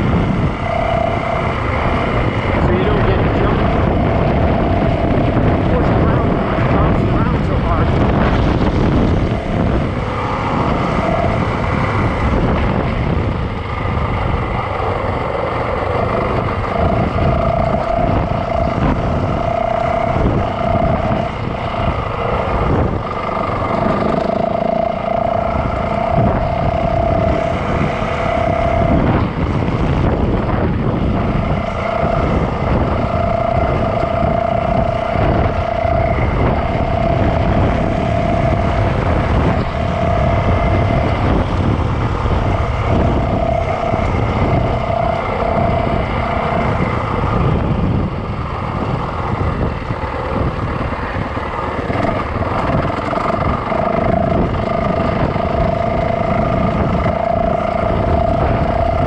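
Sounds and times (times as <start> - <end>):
dirt bike engine running: 0.0 - 59.0
rough-ground rumble: 0.0 - 59.0
wind on microphone: 0.0 - 59.0.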